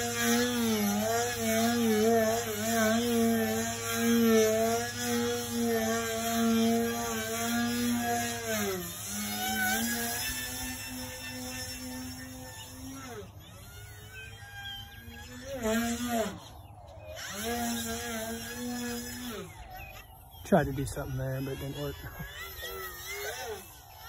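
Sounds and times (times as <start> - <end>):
electric motor and propeller whining: 0.0 - 24.0.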